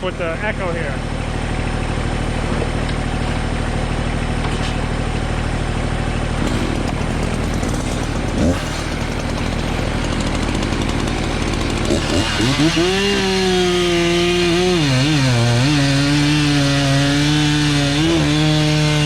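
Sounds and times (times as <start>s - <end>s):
small engine idling: 0.0s - 15.6s.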